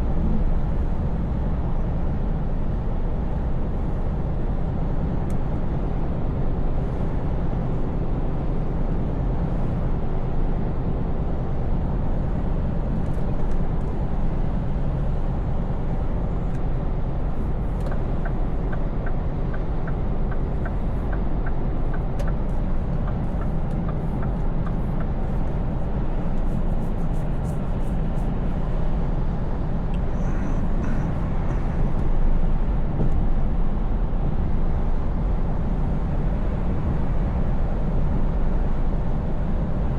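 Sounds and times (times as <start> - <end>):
truck engine drone in cab: 0.0 - 39.9.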